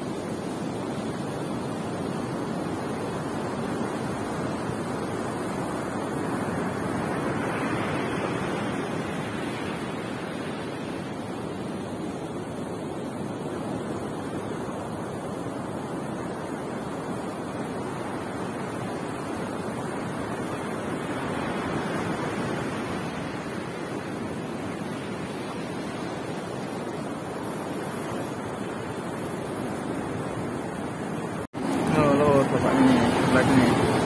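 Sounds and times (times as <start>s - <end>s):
ocean surf breaking: 0.0s - 34.0s.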